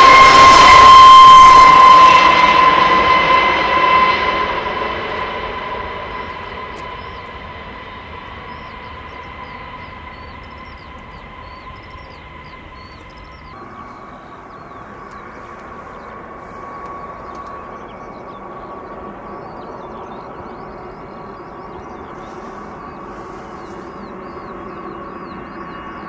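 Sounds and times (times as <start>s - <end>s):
jet engines rumbling with whine: 0.0s - 26.0s.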